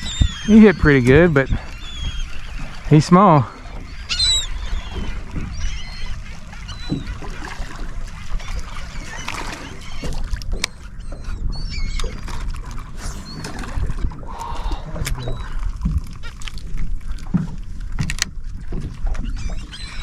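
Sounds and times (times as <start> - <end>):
seabirds calling: 0.0 - 20.0
wind and water rumble: 0.0 - 20.0.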